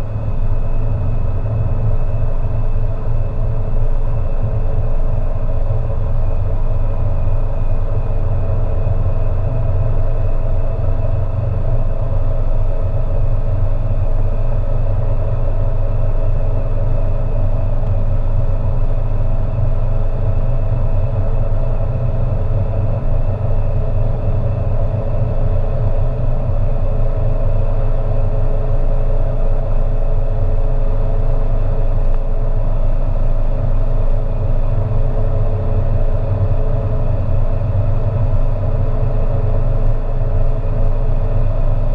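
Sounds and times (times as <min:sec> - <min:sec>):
diesel car engine rumble: 0:00.0 - 0:41.9.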